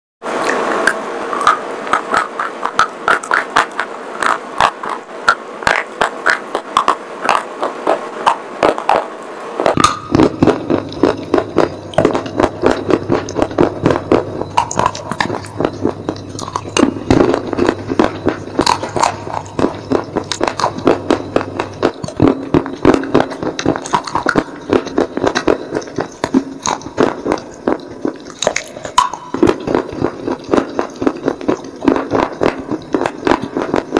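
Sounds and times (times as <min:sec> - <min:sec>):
faint low hum: 0:00.3 - 0:33.9.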